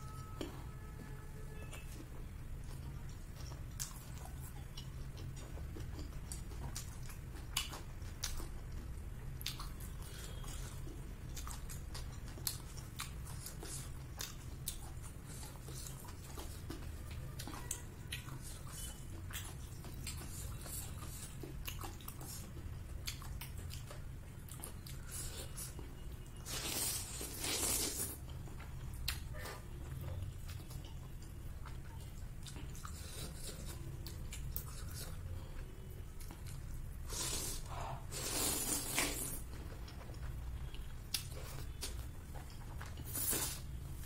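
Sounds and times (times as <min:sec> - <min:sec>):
chewing with mouth smacks: 0:01.6 - 0:44.0.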